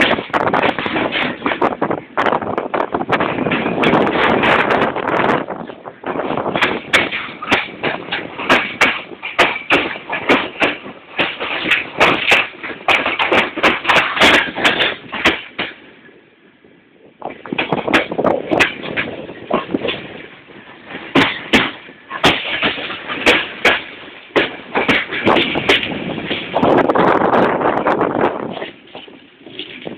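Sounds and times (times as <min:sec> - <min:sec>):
train wheels clattering: 0:00.0 - 0:16.2, 0:17.2 - 0:29.9
rushing noise: 0:00.0 - 0:29.9.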